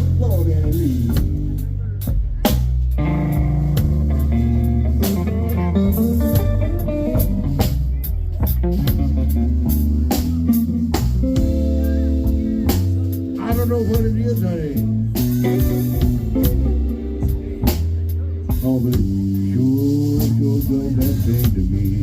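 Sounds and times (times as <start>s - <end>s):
blues band playing: 0.0s - 22.0s
electric guitar lead: 0.0s - 22.0s.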